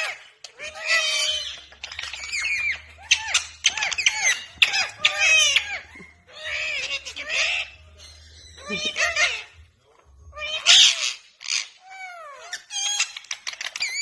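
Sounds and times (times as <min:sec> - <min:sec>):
parrot squeaky calls: 0:00.0 - 0:14.0.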